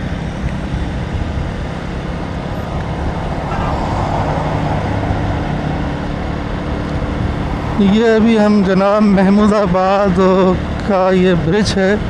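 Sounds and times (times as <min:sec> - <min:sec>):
motorcycle engine hum: 0:00.0 - 0:12.0
road and traffic noise: 0:00.0 - 0:12.0
vehicle passing: 0:00.0 - 0:12.0.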